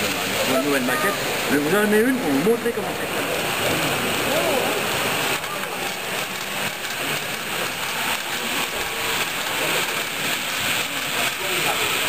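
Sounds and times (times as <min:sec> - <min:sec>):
model train wheels rattling on rails: 0:00.0 - 0:12.0.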